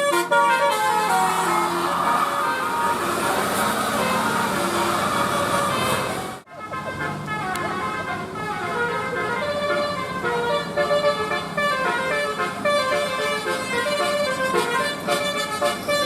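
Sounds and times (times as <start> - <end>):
bus engine hum: 0.0 - 16.0
bus musical horn melody: 0.0 - 16.0.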